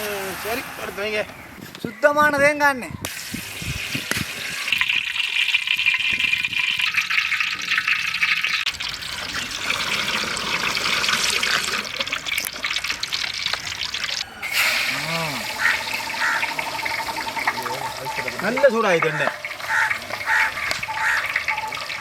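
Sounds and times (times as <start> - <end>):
oil pouring into frying pan: 3.1 - 22.0.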